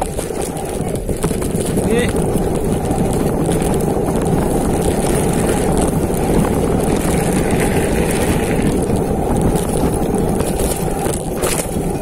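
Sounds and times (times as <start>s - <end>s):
mountain bike rumbling on dirt: 0.0s - 12.0s
wind buffeting microphone: 0.0s - 12.0s.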